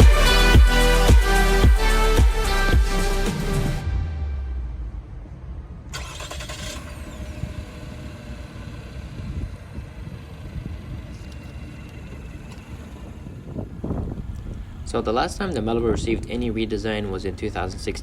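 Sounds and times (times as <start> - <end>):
car and road rumble: 0.0 - 18.0.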